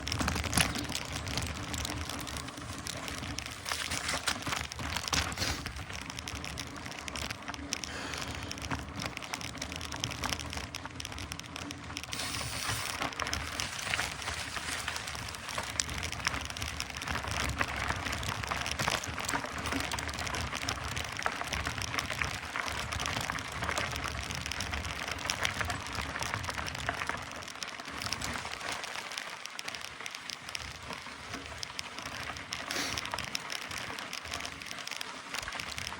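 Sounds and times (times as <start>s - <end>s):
bike tyres on muddy trail: 0.0s - 35.9s.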